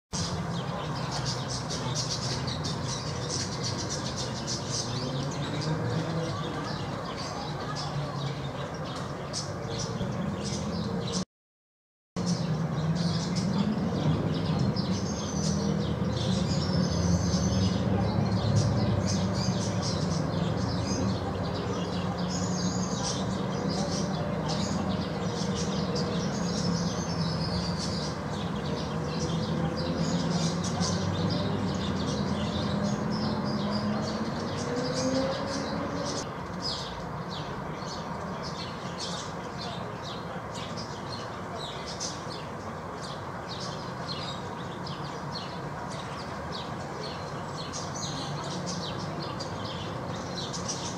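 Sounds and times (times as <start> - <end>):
small birds chirping: 0.1 - 11.2, 12.2 - 50.9.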